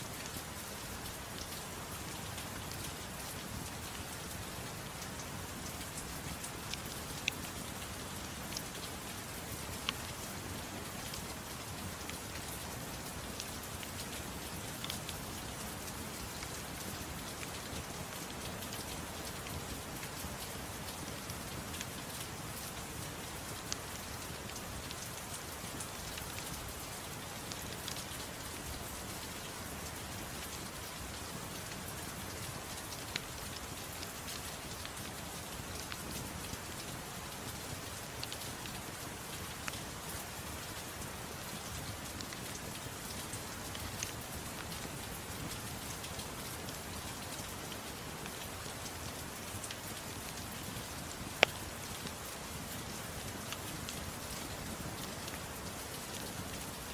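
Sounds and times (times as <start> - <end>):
soft rain: 0.0 - 56.9.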